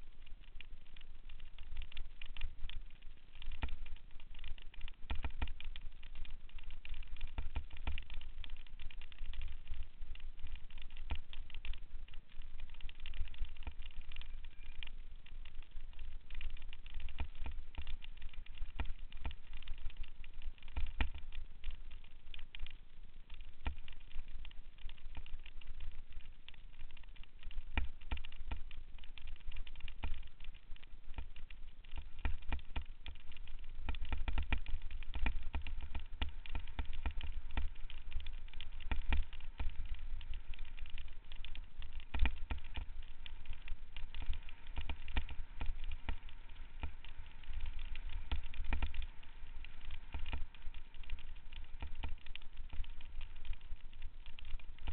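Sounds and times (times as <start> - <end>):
mountain bike rattling on trail: 0.0 - 54.9.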